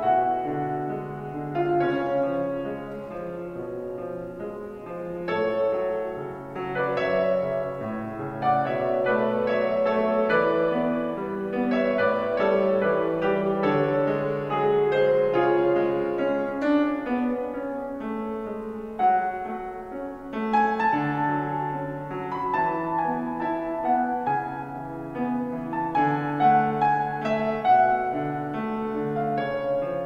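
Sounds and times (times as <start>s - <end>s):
solo piano: 0.0s - 30.0s.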